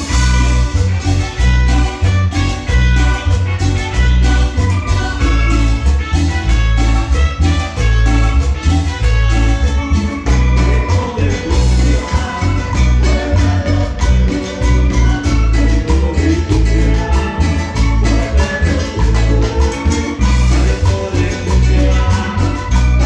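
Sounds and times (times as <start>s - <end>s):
cumbia dance music: 0.0s - 23.0s.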